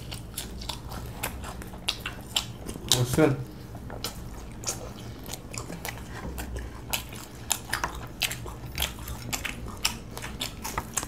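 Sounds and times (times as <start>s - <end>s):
chewing crisp fried chicken: 0.0s - 11.0s.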